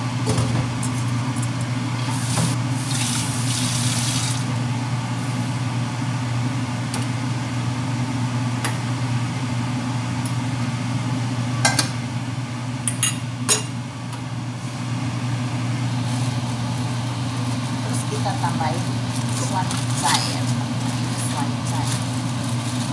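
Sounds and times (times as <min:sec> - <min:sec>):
low kitchen hum: 0:00.0 - 0:22.9.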